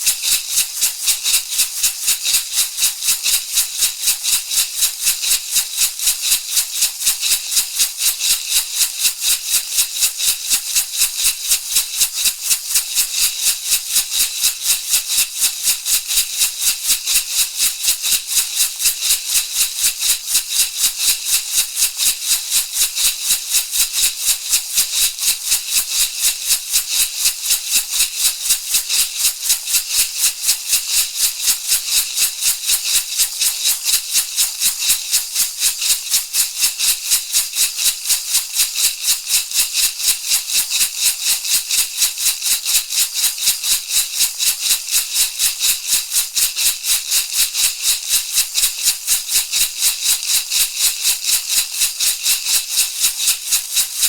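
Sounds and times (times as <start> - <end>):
rattle shaken rhythmically: 0.0 - 54.0.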